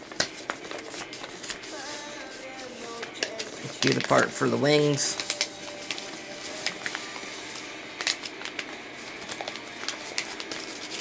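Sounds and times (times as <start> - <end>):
paper rustling and crackling: 0.0 - 11.0.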